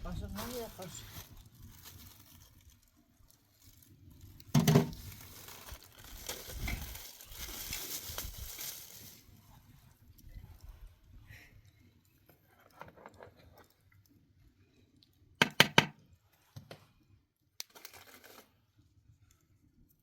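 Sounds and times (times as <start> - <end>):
faint rustling and crunching: 0.0 - 15.3, 16.2 - 20.0.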